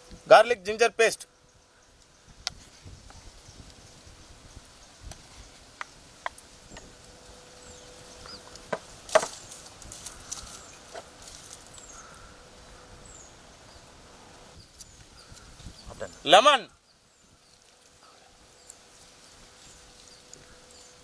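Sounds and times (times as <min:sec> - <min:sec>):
quiet outdoor background: 0:00.0 - 0:21.0.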